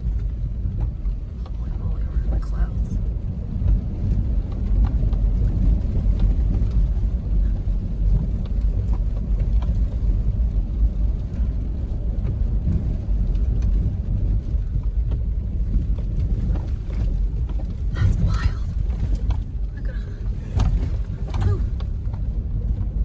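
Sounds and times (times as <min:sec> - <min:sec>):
off-road vehicle engine and tyres rumbling: 0:00.0 - 0:23.0.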